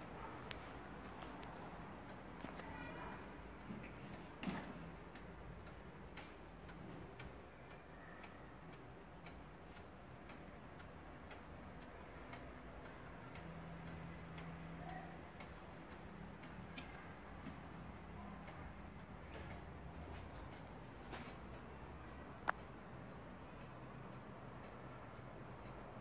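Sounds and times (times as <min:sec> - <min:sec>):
pendulum clock ticking: 0:00.0 - 0:26.0.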